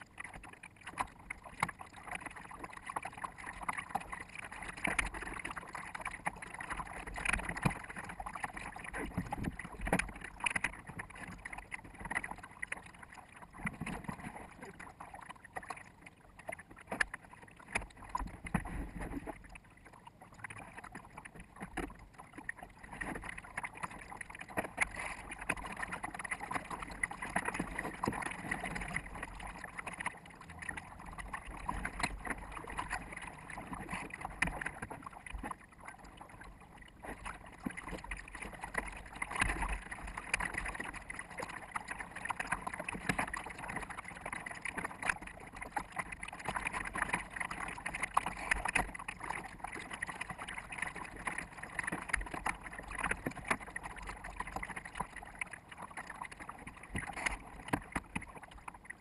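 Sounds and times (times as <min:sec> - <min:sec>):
water splashing against boat bow: 0:00.0 - 0:59.0.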